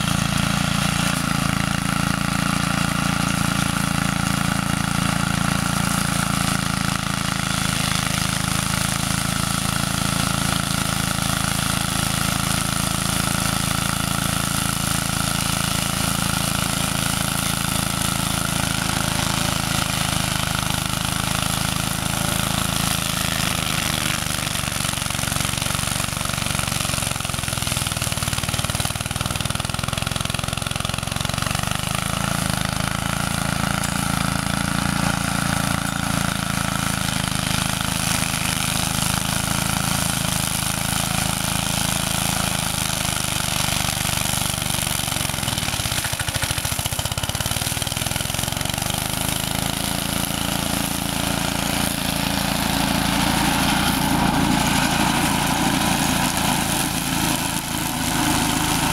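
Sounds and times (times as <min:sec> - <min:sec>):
weed mower engine running: 0:00.0 - 0:58.9.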